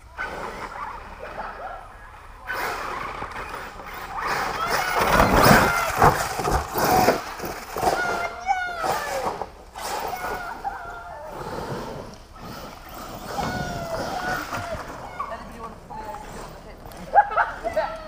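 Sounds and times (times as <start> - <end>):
toy truck motors whining: 0.0 - 18.0.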